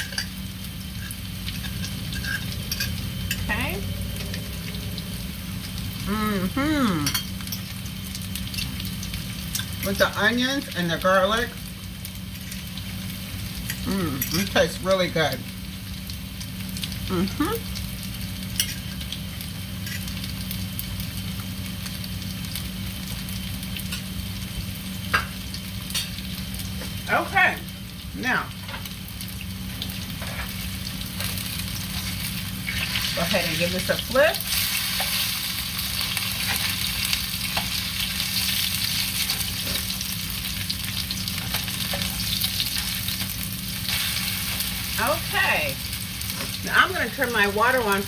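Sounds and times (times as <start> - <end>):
patties sizzling in oil: 0.0 - 48.0
steady low hum: 0.0 - 48.0.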